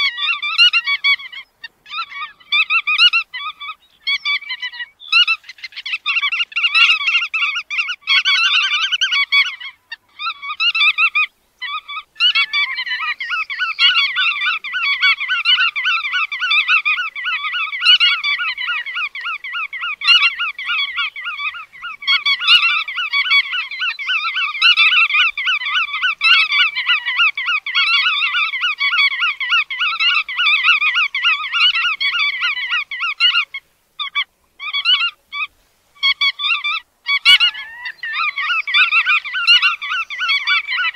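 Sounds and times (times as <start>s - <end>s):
godwit calling rapidly: 0.0s - 40.9s.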